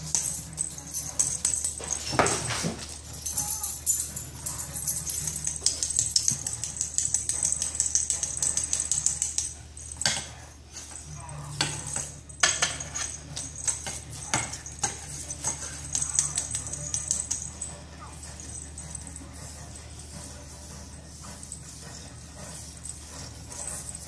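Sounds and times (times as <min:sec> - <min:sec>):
toy clicking on hardwood floor: 0:00.0 - 0:20.4
small bell jingling: 0:00.0 - 0:24.0.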